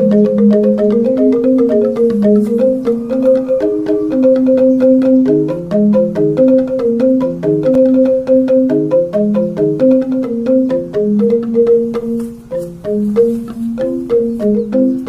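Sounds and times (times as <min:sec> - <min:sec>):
instrumental mallet percussion music: 0:00.0 - 0:15.0.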